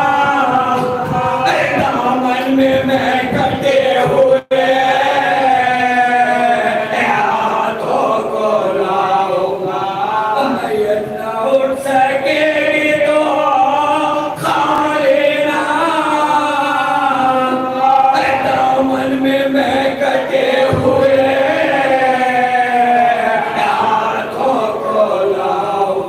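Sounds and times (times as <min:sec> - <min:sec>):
men chanting into a microphone: 0:00.0 - 0:26.0.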